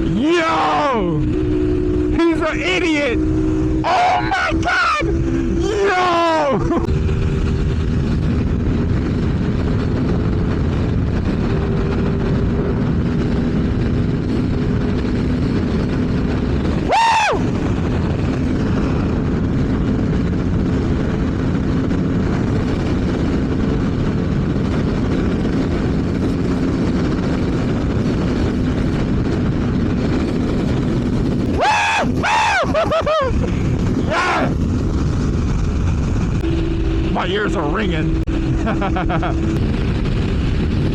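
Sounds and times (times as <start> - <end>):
motorcycle engine at high revs: 0.0 - 32.2, 32.8 - 40.9
wind noise: 0.0 - 40.9.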